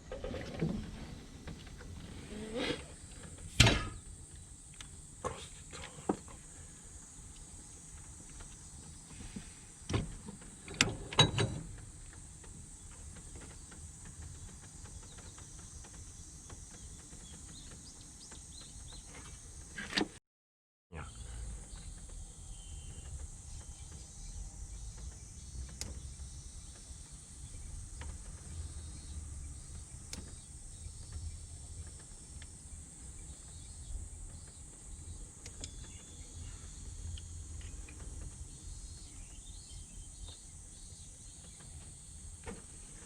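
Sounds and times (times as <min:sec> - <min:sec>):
high-pitched insect chorus: 0:01.4 - 0:19.8, 0:21.2 - 0:43.0.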